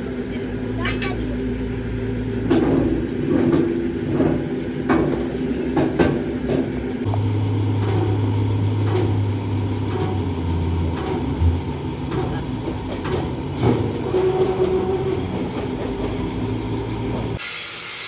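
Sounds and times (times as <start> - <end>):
engine humming: 0.0 - 17.4.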